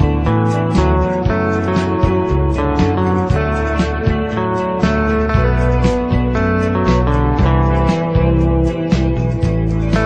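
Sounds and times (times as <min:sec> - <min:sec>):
bass line: 0:00.0 - 0:10.0
plucked guitar: 0:00.0 - 0:10.0.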